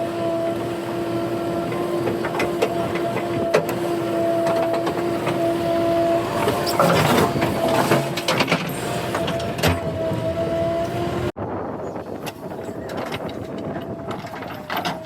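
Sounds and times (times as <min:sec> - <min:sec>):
diesel engine and hydraulics whining: 0:00.0 - 0:15.0.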